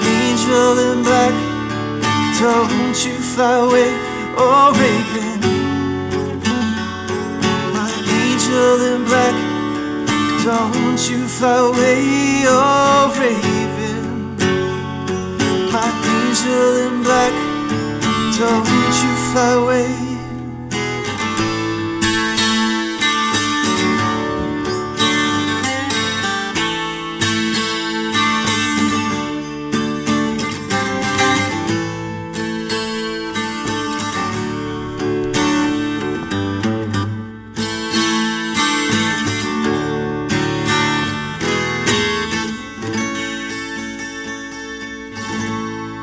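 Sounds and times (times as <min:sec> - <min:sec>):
twelve-string acoustic guitar: 0:00.0 - 0:46.0.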